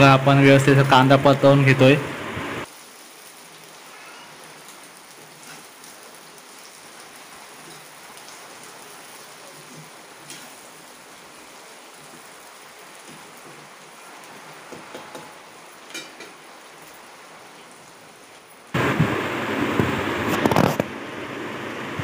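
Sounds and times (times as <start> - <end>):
onion sizzling in oil: 2.2 - 20.4.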